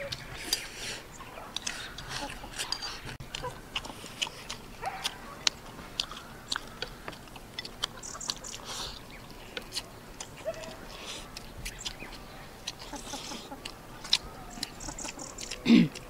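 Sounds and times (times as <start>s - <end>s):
people chewing and gnawing: 0.0s - 16.0s
chopsticks clicking on bowls: 1.5s - 8.6s, 9.2s - 16.0s.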